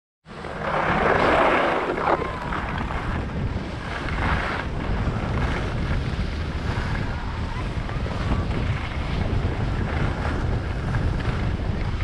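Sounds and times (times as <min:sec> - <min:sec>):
wind buffeting microphone: 0:00.3 - 0:12.0.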